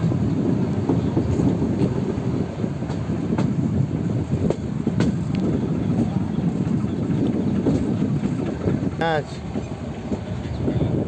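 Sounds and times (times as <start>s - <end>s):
train wheels rumbling on track: 0.0s - 11.0s
wind on microphone: 0.0s - 11.0s.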